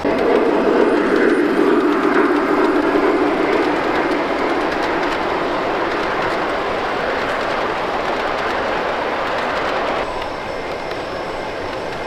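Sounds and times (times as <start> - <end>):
model train rumbling: 0.0 - 12.0
wheels clicking on rails: 0.0 - 12.0.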